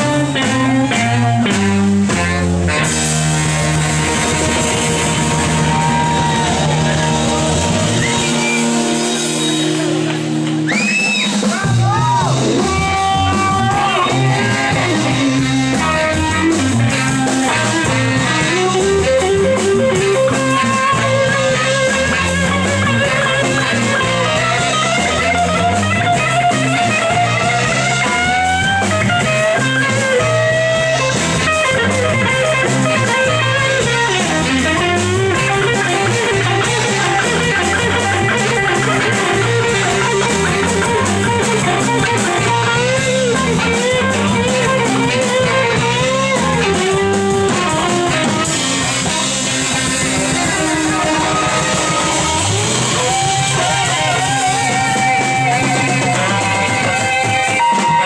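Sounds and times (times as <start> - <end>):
electric guitar melody: 0.0 - 58.0
live blues rock band: 0.0 - 58.0.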